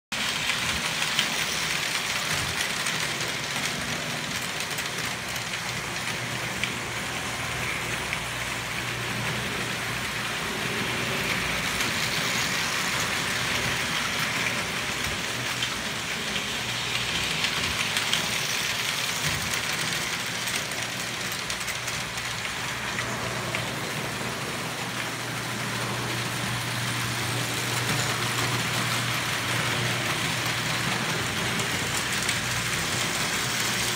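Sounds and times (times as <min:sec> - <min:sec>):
toy train wheels rattling: 0:00.2 - 0:33.9.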